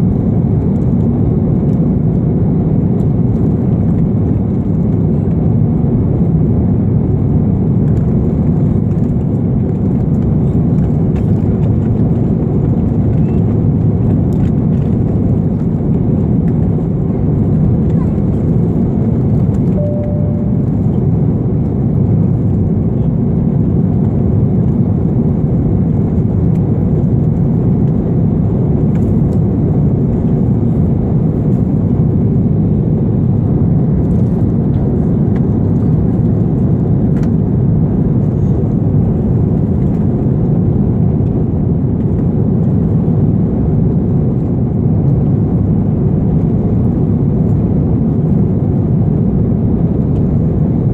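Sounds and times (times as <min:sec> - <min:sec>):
jet airliner cabin noise: 0:00.0 - 0:50.9.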